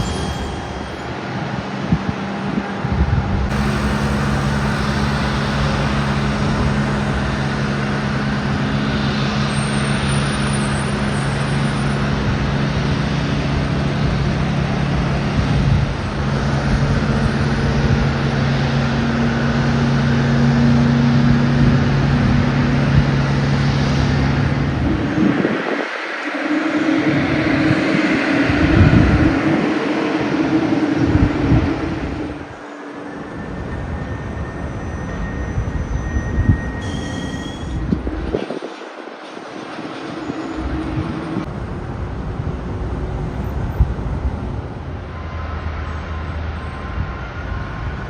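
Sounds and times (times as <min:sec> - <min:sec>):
engine rumble with low drone: 0:00.0 - 0:38.6, 0:40.6 - 0:48.0.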